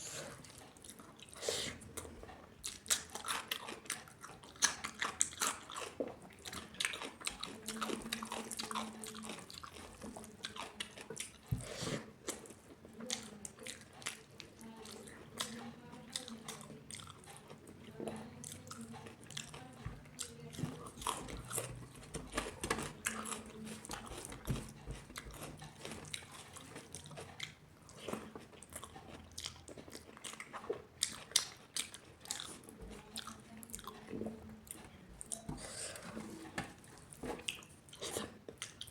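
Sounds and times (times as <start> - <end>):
person chewing and crunching: 0.0 - 38.9.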